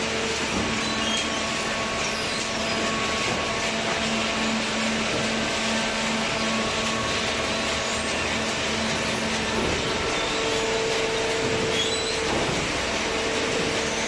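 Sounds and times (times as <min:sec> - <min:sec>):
paper baler and conveyor running: 0:00.0 - 0:14.0.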